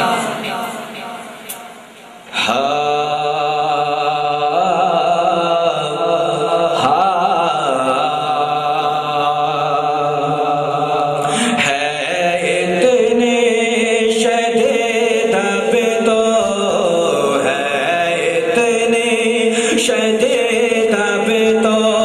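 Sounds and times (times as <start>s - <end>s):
man chanting: 2.3s - 22.0s.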